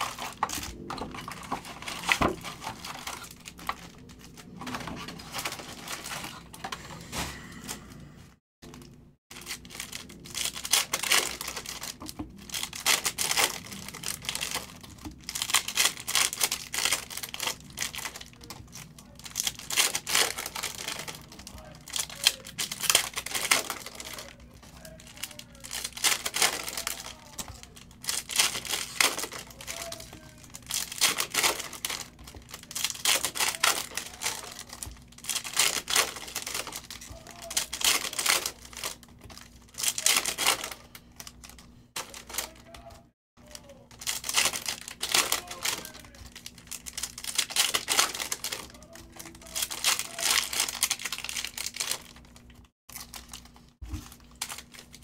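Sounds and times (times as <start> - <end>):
plastic wrappers tearing and crinkling: 0.0 - 7.2, 8.6 - 55.0.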